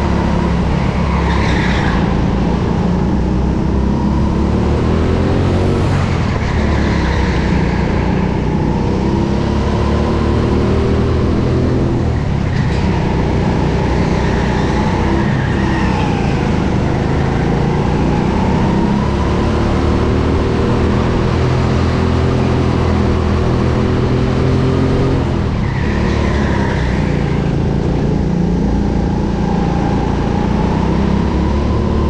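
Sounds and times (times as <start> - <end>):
go-kart engine revving: 0.0 - 32.0.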